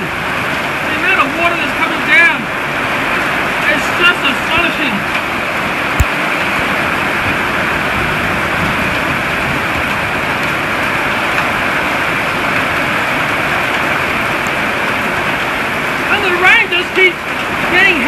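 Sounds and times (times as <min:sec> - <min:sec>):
heavy rain on corrugated roof: 0:00.0 - 0:18.0
storm wind: 0:00.0 - 0:18.0.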